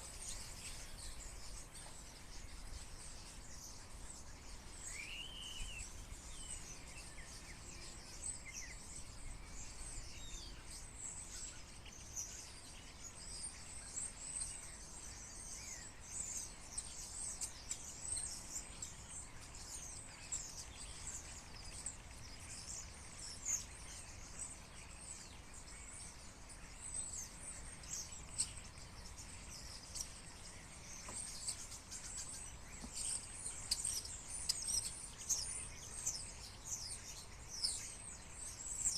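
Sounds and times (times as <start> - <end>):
flock of small birds chirping: 0.0 - 38.9.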